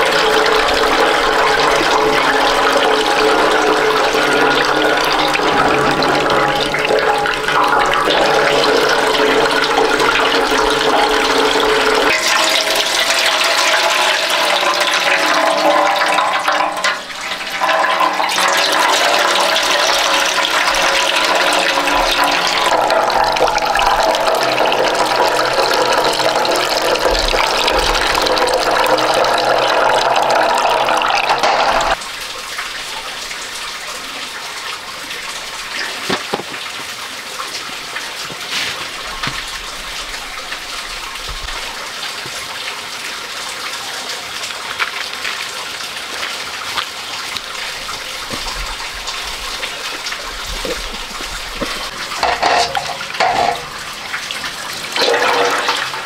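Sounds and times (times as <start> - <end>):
juice streaming into a basin: 0.0 - 43.1, 43.7 - 56.0.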